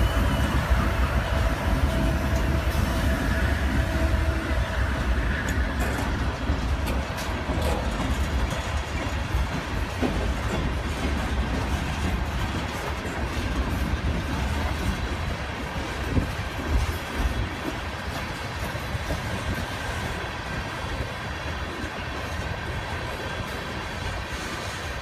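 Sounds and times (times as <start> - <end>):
train wheels rumbling on rail: 0.0 - 25.0
wheels clicking over rail joints: 0.0 - 25.0.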